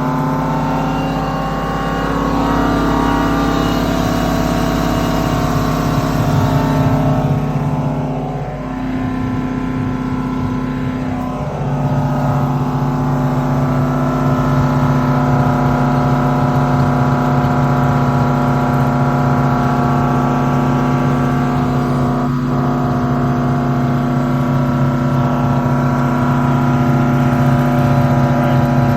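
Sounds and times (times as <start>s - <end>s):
generator engine running: 0.0s - 28.9s.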